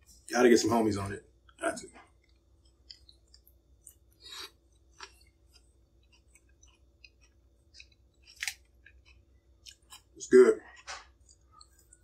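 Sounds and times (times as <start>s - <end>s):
person chewing salad: 1.4s - 12.0s.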